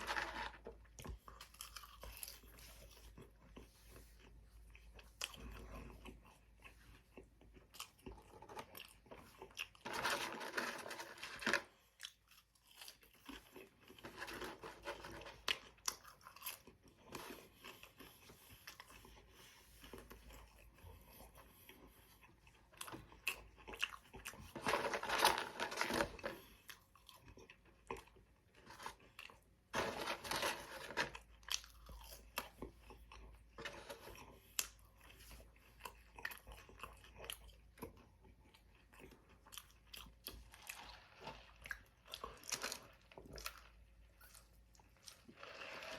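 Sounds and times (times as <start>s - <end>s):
person chewing and crunching food: 0.0s - 45.9s.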